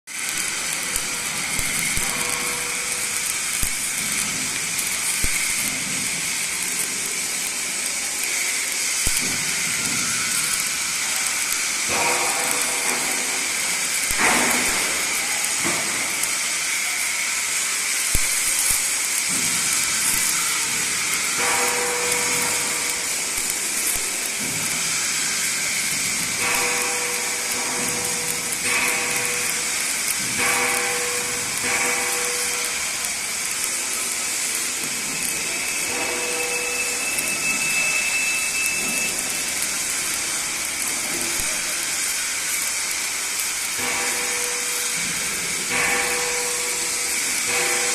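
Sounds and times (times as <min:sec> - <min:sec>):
arc welding sizzling and crackling: 0:00.1 - 0:47.9.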